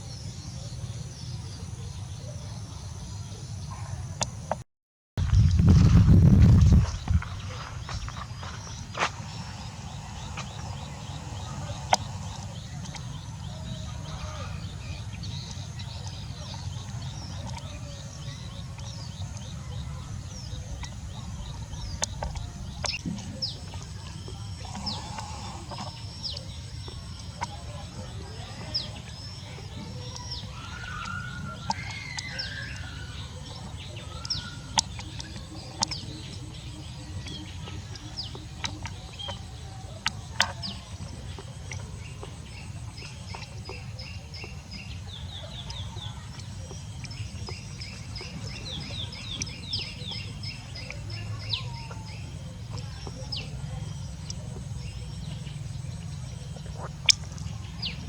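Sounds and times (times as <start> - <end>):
birds chirping: 5.2 - 58.0
steady low hum: 5.2 - 58.0.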